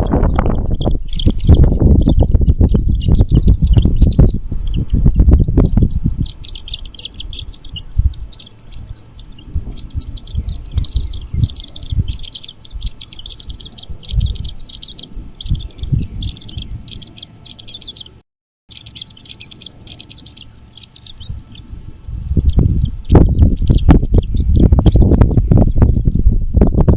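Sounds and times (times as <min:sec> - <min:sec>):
low rumbling thumps: 0:00.0 - 0:17.7, 0:20.4 - 0:26.9
eagle chittering: 0:00.0 - 0:26.2.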